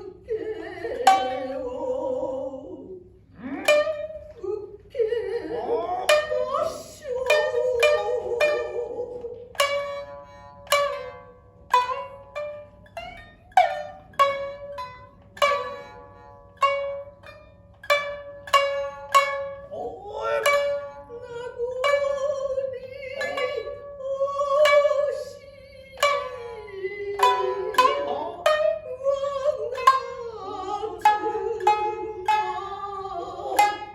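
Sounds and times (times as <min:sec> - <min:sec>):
shamisen plucked: 0:00.0 - 0:02.8, 0:03.4 - 0:33.9.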